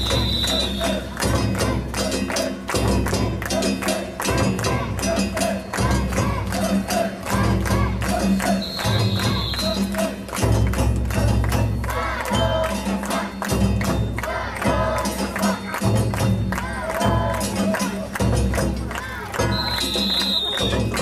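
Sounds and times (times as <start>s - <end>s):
festival music with drum beat: 0.0s - 21.0s.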